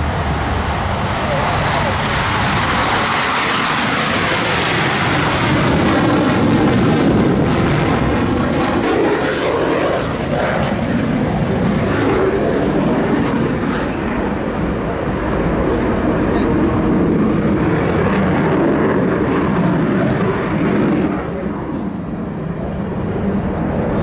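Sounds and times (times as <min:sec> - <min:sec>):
military aircraft flying over: 0:00.0 - 0:24.0.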